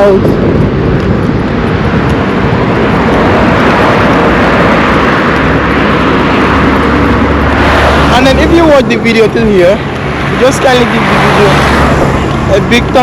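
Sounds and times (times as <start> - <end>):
deep low rumble: 0.0 - 13.0
vehicle passing by: 1.2 - 13.0.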